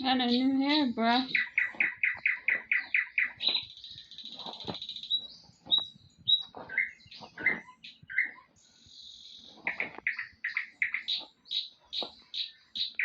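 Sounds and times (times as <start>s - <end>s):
buzzy bird trill: 0.0s - 13.0s
small birds chirping: 0.0s - 13.0s.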